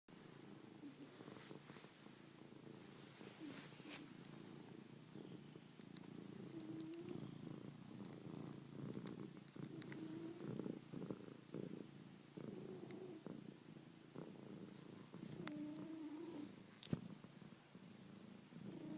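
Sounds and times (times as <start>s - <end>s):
cat purring: 0.1s - 18.9s.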